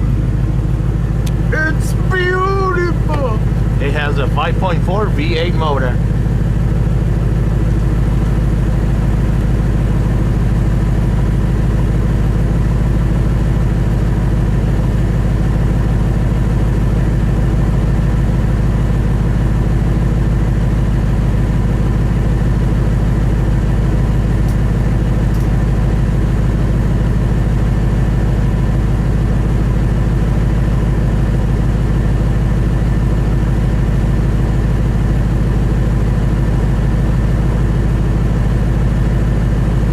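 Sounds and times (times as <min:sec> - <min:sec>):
engine idling without muffler: 0:00.0 - 0:39.9.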